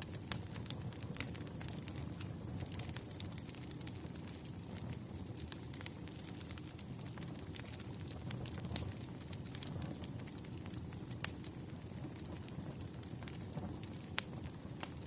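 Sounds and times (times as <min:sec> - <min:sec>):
sharp pops from fire: 0:00.0 - 0:15.0
wood fire crackling: 0:00.0 - 0:15.0.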